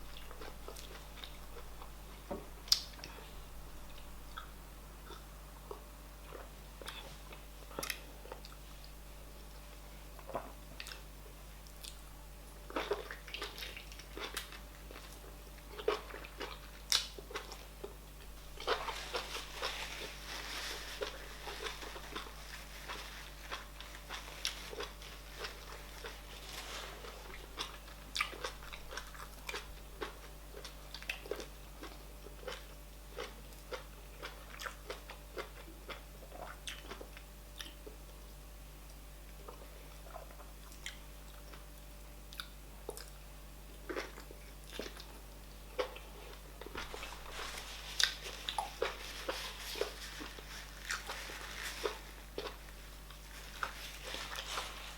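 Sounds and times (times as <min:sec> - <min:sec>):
faint low hum: 0:00.0 - 0:54.9
close chewing and mouth clicks: 0:03.9 - 0:09.0, 0:09.6 - 0:12.0, 0:12.7 - 0:20.2, 0:20.9 - 0:26.4, 0:27.0 - 0:38.2, 0:39.3 - 0:43.2, 0:43.8 - 0:54.9.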